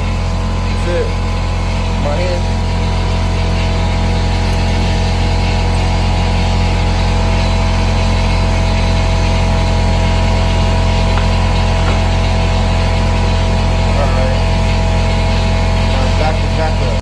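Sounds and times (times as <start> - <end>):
machine droning steadily: 0.0 - 17.0.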